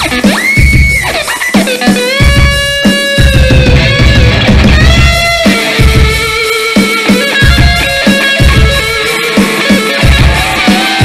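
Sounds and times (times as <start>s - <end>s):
bass and drums backing: 0.0s - 11.0s
electric guitar lead bending: 0.0s - 11.0s.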